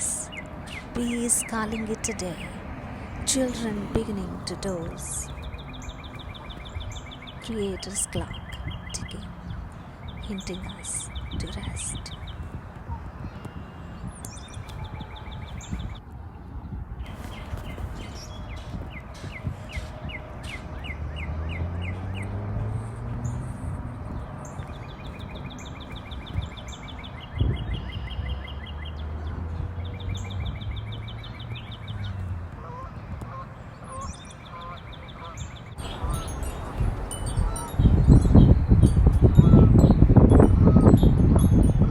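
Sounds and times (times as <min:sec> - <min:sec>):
birds trilling: 0:00.0 - 0:16.0, 0:17.1 - 0:41.8
wind rumbling on microphone: 0:00.0 - 0:41.9.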